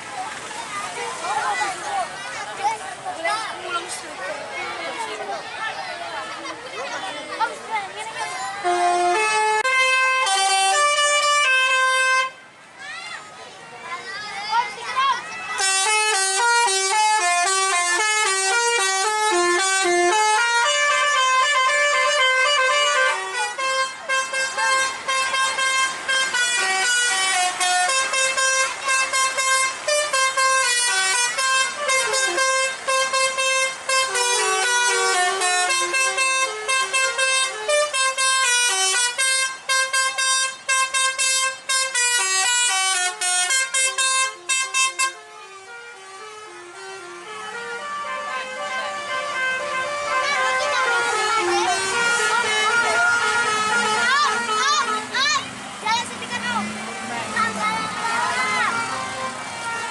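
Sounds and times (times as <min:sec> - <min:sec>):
melodic bus air horns: 0:08.0 - 0:12.8, 0:15.5 - 0:59.9.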